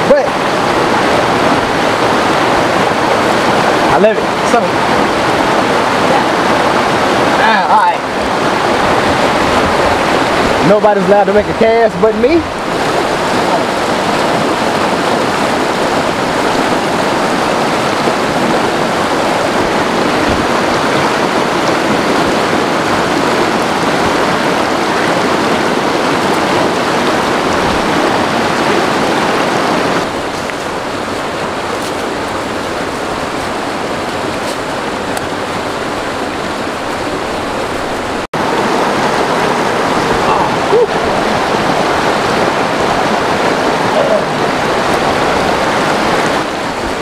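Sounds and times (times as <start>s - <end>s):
stream rushing over stones: 0.0s - 47.0s.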